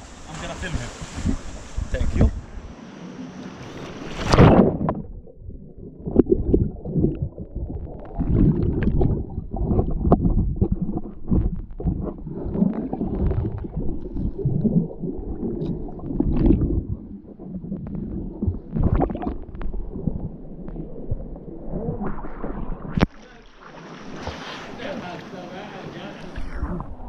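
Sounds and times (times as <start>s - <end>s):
water splash: 0.0s - 2.5s, 3.2s - 27.0s
underwater churning and bubbles: 0.0s - 27.0s.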